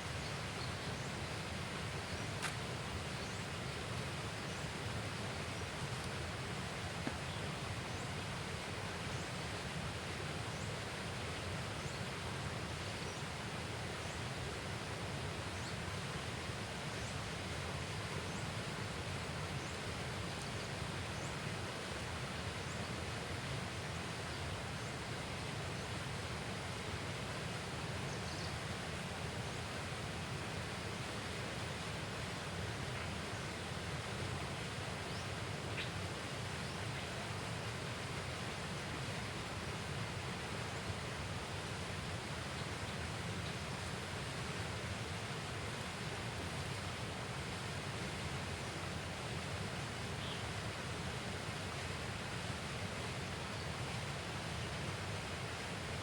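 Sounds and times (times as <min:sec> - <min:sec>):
outdoor ambient noise: 0:00.0 - 0:56.0.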